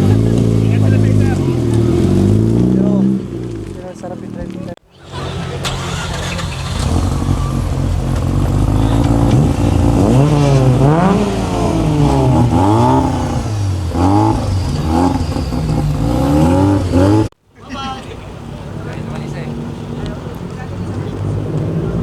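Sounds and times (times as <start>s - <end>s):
car engine revving: 0.0s - 17.4s, 18.4s - 22.0s.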